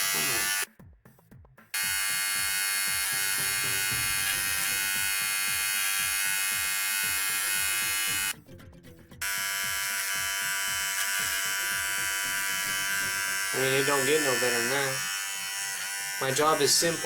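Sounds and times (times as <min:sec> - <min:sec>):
electric beard trimmer buzzing: 0:00.0 - 0:00.7, 0:01.7 - 0:08.4, 0:09.2 - 0:17.0.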